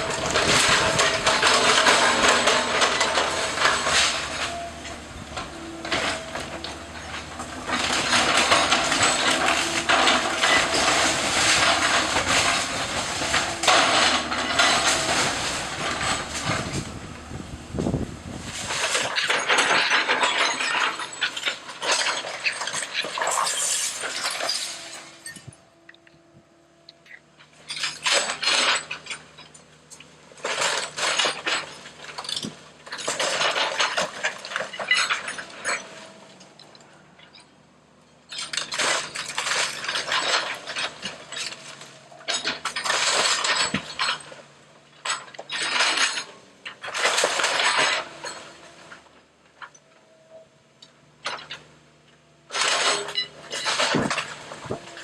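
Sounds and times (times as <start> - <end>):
debris cracking and crashing: 0.0 - 26.2, 27.0 - 37.5, 38.1 - 49.8, 51.2 - 55.0.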